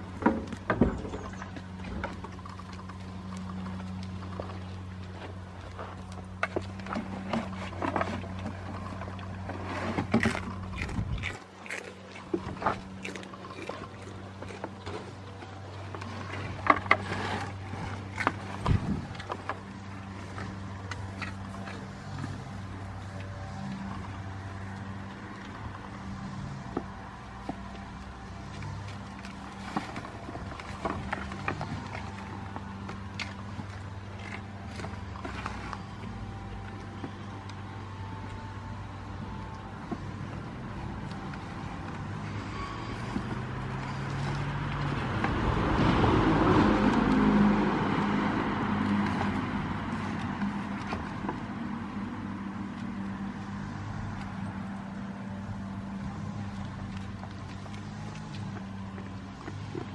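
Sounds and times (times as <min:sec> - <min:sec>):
steady low hum: 0:00.0 - 0:59.9
passing vehicle engine: 0:01.2 - 0:59.9.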